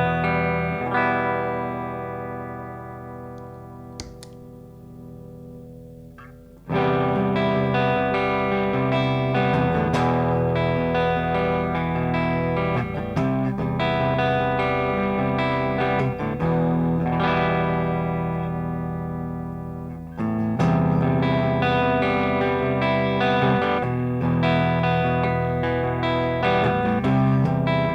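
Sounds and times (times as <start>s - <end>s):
overdriven electric guitar: 0.0s - 27.9s.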